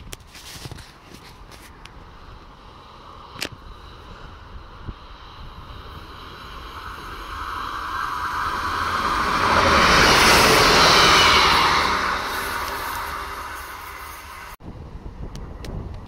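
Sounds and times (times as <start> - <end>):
diesel train passing: 1.7 - 15.6.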